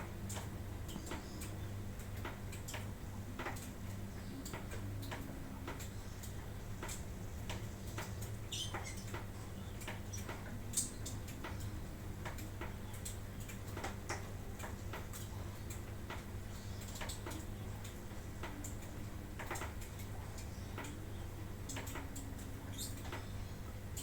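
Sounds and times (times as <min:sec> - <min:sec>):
lovebirds chirping and clicking: 0:00.3 - 0:24.0.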